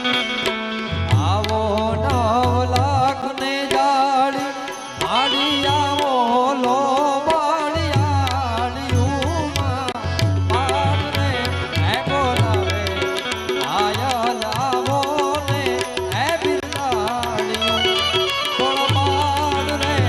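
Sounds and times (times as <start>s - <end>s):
hand percussion: 0.0s - 20.0s.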